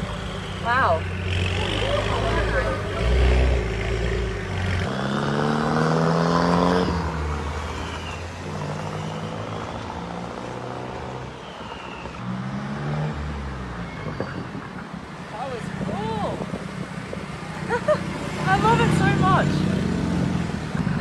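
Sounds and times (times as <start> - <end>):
turbocharged engine accelerating: 0.0 - 14.2, 15.2 - 21.0.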